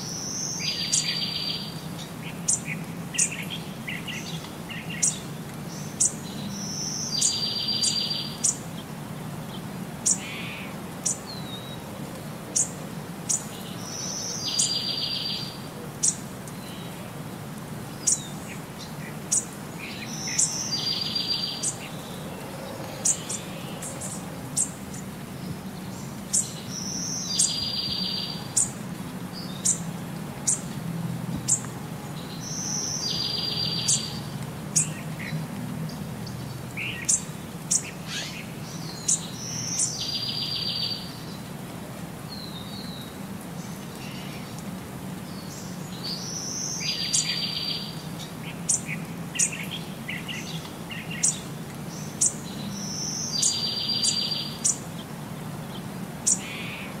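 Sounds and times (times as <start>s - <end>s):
birds chirping: 0.0s - 11.9s, 12.5s - 17.0s, 17.8s - 41.5s, 42.3s - 57.0s.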